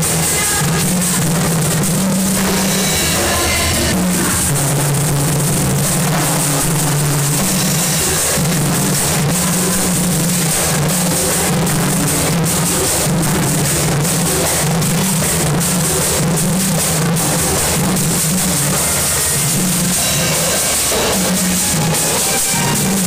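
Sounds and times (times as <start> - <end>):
hand drums: 0.0 - 23.0
scraped metal percussion: 0.0 - 23.0.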